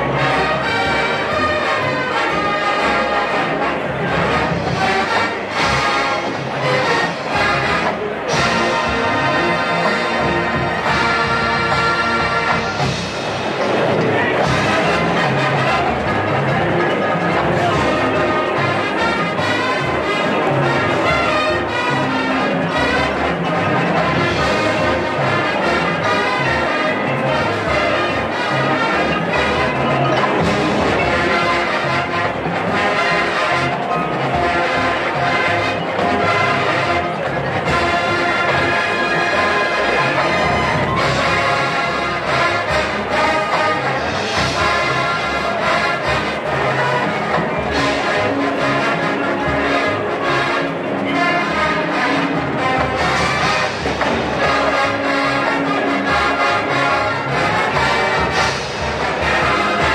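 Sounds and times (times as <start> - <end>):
marching band playing: 0.0 - 59.9
trombones and trumpets: 0.0 - 59.9.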